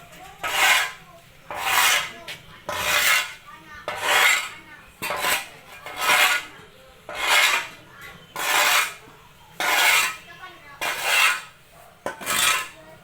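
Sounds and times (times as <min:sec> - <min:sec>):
scraping through sawdust: 0:00.4 - 0:06.5, 0:07.1 - 0:12.8.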